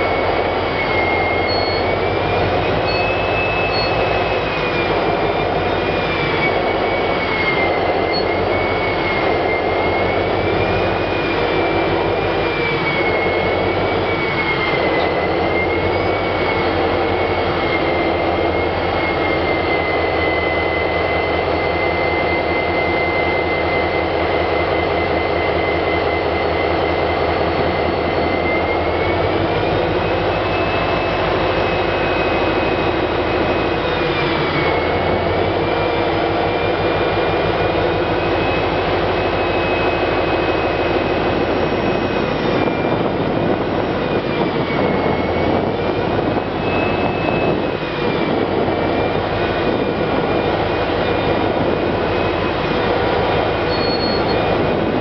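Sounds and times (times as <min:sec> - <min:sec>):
diesel locomotive engine rumble: 0:00.0 - 0:55.0
turbocharger whine: 0:00.0 - 0:55.0.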